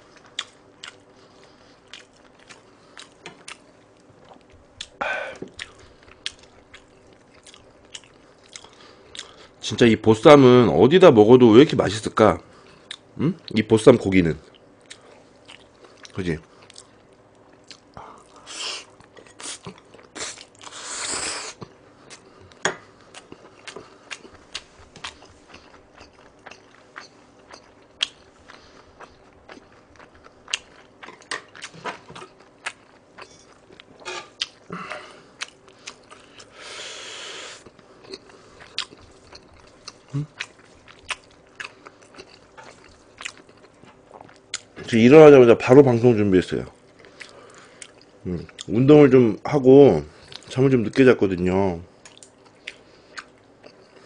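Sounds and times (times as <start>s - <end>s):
person chewing noodles: 0.0s - 9.6s, 12.6s - 13.1s, 14.4s - 44.8s, 46.8s - 48.7s, 50.2s - 50.5s, 51.9s - 54.0s.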